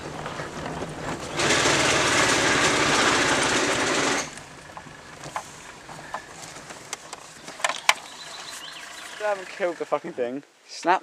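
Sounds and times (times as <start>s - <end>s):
engine mechanical rattle: 0.0s - 10.2s.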